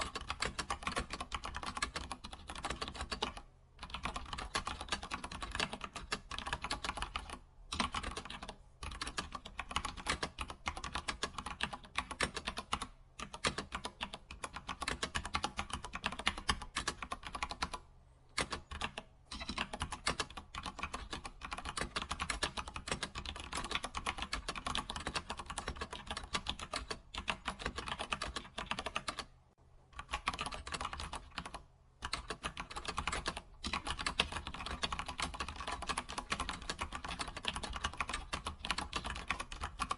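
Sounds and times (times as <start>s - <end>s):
computer keyboard typing: 0.0s - 29.4s, 30.0s - 39.9s.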